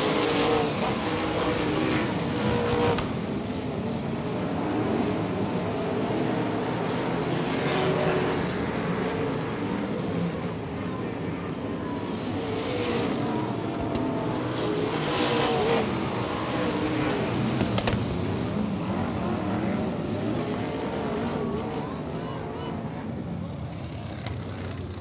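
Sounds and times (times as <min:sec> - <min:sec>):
race car engines passing: 0:00.0 - 0:25.0.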